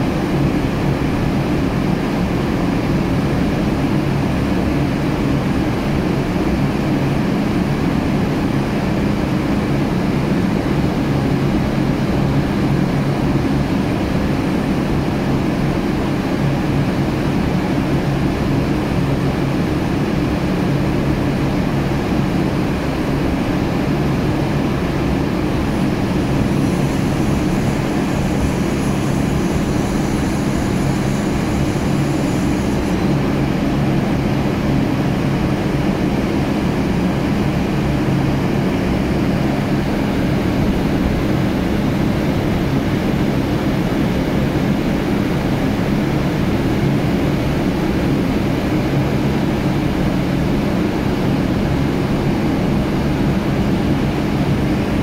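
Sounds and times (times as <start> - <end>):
heavy machinery drone: 7.7 - 55.0
faint high whine: 11.0 - 55.0.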